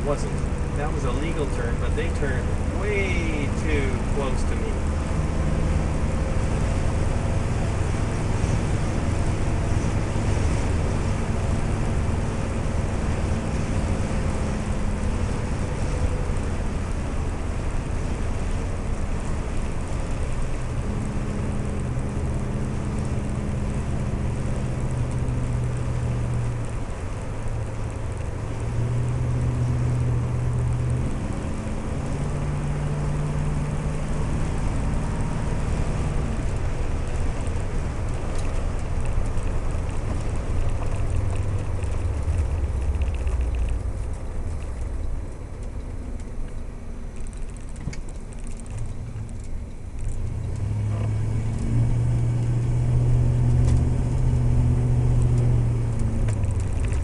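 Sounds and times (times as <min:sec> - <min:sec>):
car engine running: 0:00.0 - 0:57.0
tyre and road noise: 0:00.0 - 0:57.0.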